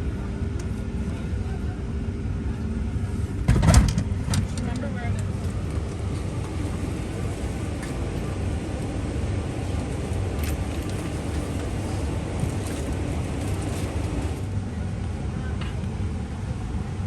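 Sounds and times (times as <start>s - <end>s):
cabin air conditioning hum: 0.0s - 17.0s.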